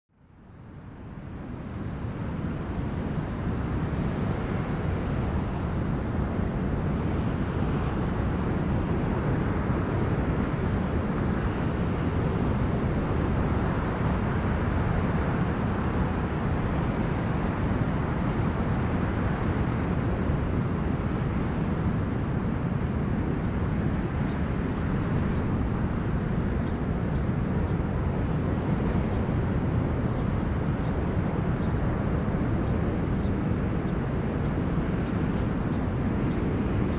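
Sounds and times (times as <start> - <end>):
wind buffeting microphone: 2.6 - 36.9.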